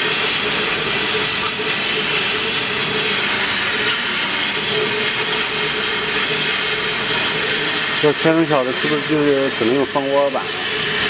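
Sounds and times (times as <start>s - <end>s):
laser cutter hissing: 0.0s - 11.0s.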